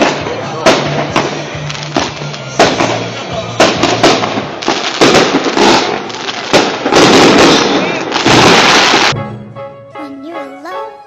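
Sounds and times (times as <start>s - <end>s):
fireworks bangs: 0.0s - 9.2s
fireworks crackling: 0.0s - 9.2s.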